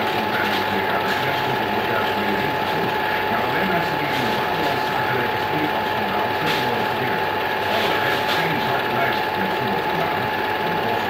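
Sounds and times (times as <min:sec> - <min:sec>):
film projector clattering: 0:00.0 - 0:11.0.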